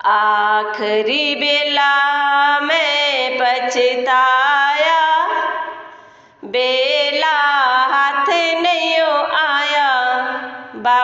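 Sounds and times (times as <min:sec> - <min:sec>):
woman singing devotional song: 0:00.0 - 0:11.0.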